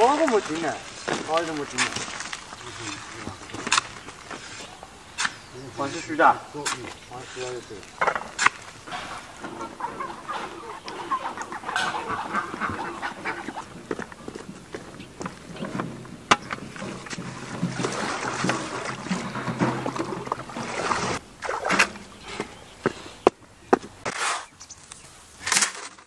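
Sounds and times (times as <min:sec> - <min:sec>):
water splashing and sloshing: 0:00.0 - 0:22.8
chickens clucking: 0:00.0 - 0:25.1.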